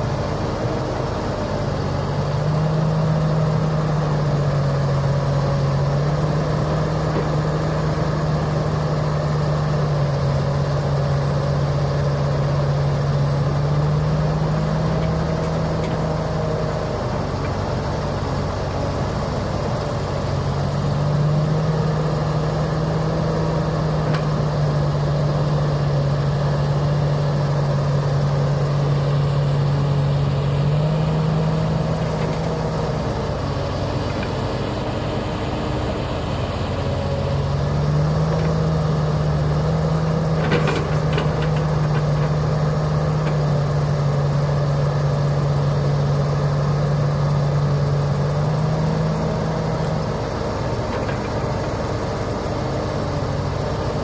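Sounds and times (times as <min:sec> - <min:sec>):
excavator diesel engine under load: 0:00.0 - 0:54.0
truck engine idling: 0:00.0 - 0:54.0.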